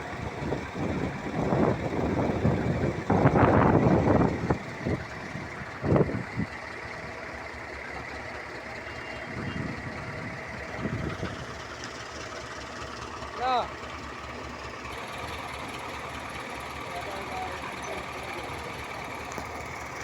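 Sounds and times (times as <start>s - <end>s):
heavy machinery rumbling: 0.0s - 20.0s.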